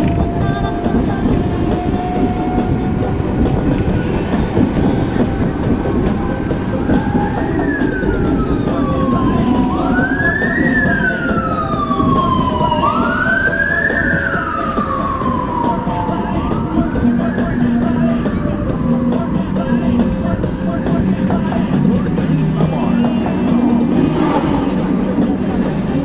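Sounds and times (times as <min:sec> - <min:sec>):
emergency vehicle siren wailing: 0:00.0 - 0:26.0
tram rumbling on tracks: 0:00.0 - 0:26.0.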